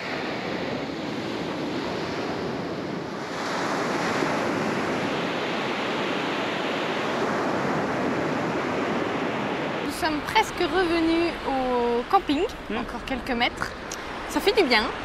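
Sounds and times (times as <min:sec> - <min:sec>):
surf breaking on beach: 0:00.0 - 0:15.0
wind on microphone: 0:00.0 - 0:15.0.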